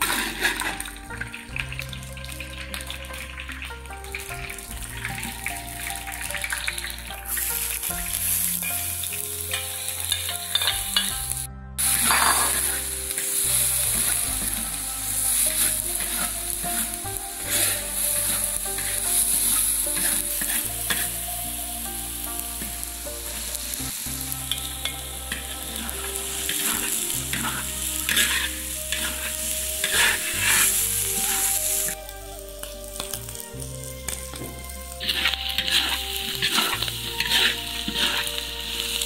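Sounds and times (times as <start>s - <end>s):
metal spatula scraping: 0.0s - 1.0s, 4.4s - 21.5s, 22.4s - 32.0s, 34.1s - 39.0s
oil sizzling in a wok: 0.0s - 39.0s.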